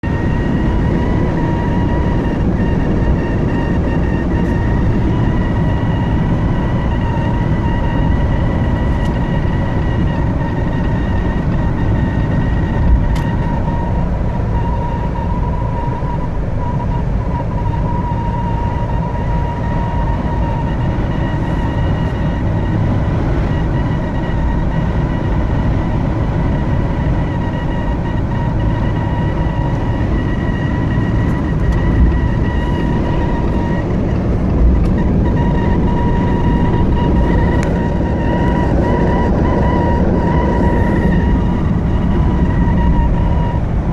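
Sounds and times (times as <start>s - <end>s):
road and wind rumble: 0.0s - 43.9s.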